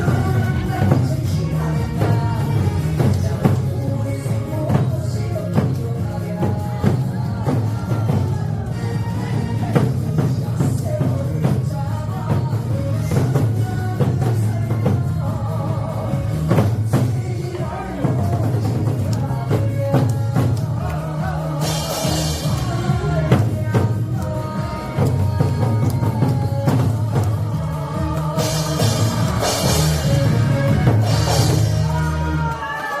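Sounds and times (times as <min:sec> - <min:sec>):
drums struck: 0:00.0 - 0:32.3
recorded pop song with singing: 0:00.0 - 0:33.0.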